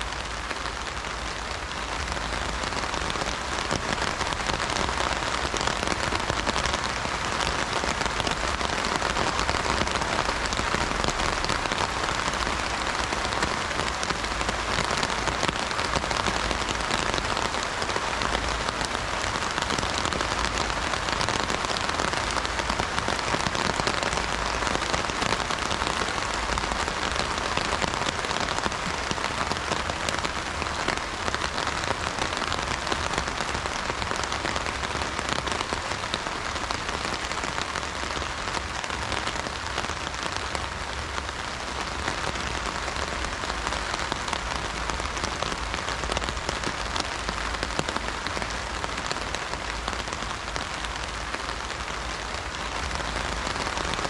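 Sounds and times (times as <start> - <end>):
heavy rain on an umbrella: 0.0 - 54.0.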